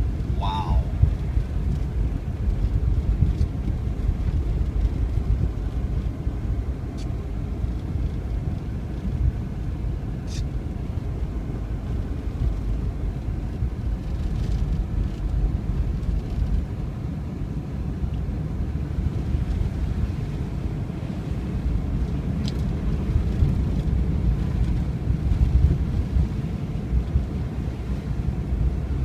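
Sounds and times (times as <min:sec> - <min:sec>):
vehicle driving on snow: 0:00.0 - 0:29.0.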